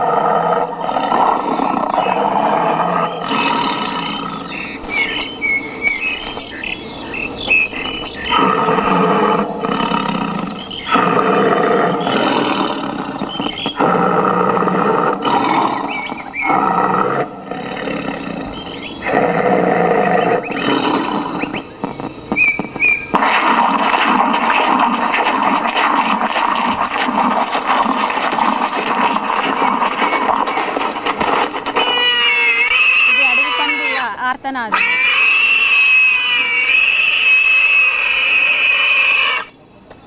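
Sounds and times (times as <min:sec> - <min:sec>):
tiger roaring and snarling: 0:00.0 - 0:06.5, 0:07.5 - 0:34.1, 0:34.7 - 0:39.6
wild boar squealing: 0:00.0 - 0:06.6, 0:07.5 - 0:39.6.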